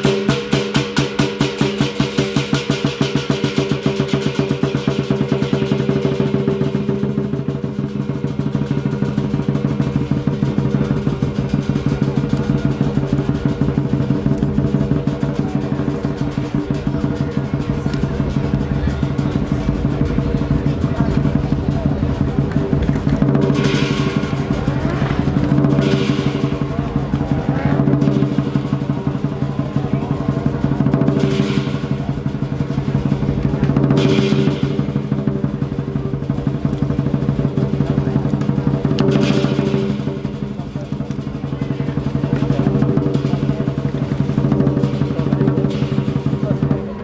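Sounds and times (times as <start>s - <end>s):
cymbals crashing: 0.0s - 47.0s
large drum rolling: 0.0s - 47.0s
gongs ringing: 3.2s - 41.0s.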